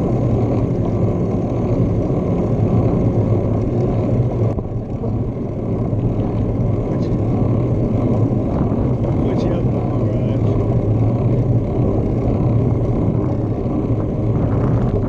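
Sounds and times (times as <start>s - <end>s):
road noise: 0.0s - 15.0s
wind rumble on microphone: 0.0s - 15.0s.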